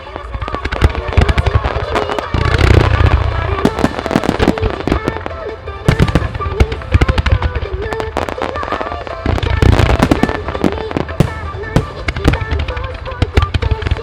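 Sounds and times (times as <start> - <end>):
deep booming fireworks shells: 0.0 - 14.0
fireworks bangs and crackles: 0.0 - 14.0
pop song over loudspeakers: 0.0 - 14.0.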